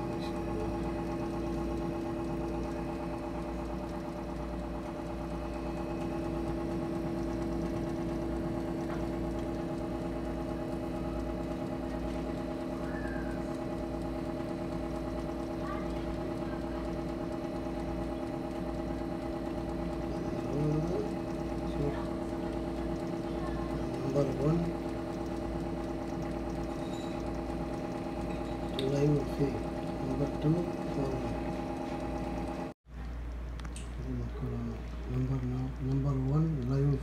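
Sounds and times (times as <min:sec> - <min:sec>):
oven humming: 0:00.0 - 0:37.0.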